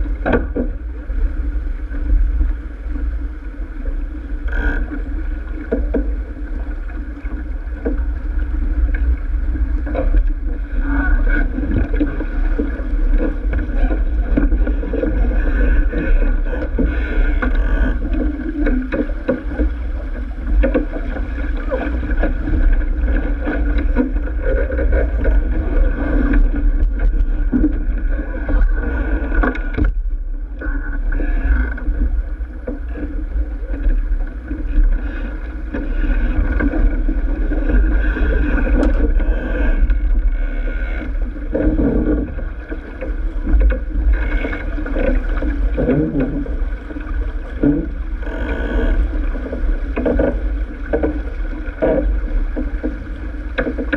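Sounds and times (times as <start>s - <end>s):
water rushing along hull: 0.0s - 53.9s.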